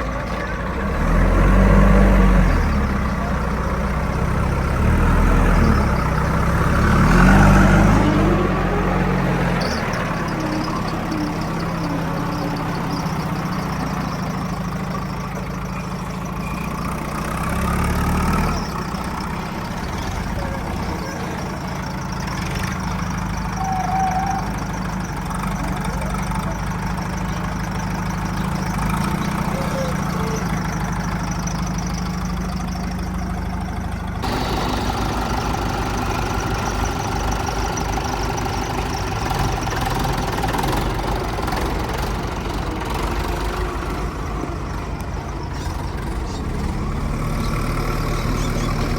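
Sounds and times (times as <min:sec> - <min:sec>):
heavy diesel engine revving: 0:00.0 - 0:48.9.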